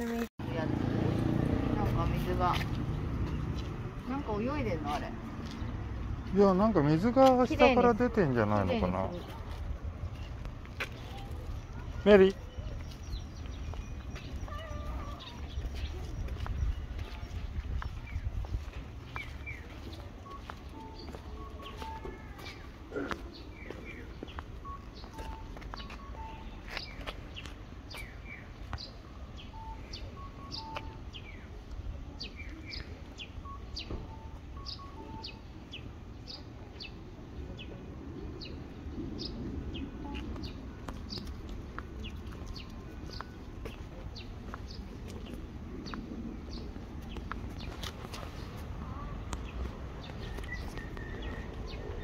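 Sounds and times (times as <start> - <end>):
small birds chirping: 1.8 - 52.0.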